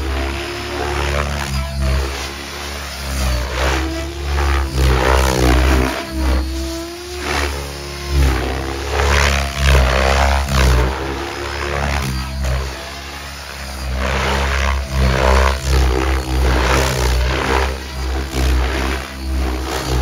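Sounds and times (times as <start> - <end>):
electric motor whining: 0.0 - 20.0
rotor blades whooshing: 0.0 - 20.0.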